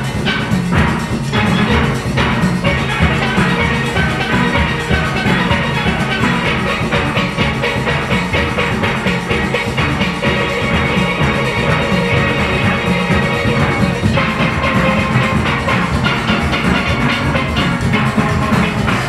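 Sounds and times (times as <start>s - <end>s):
drum and percussion beat: 0.0s - 19.0s
steel pans playing calypso: 0.0s - 19.0s.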